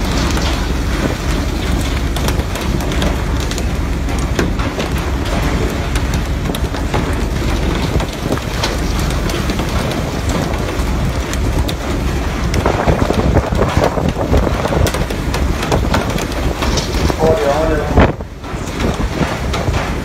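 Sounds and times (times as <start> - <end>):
sharp knocks and clicks: 0.0 - 17.4
wind buffeting the microphone: 0.0 - 20.0.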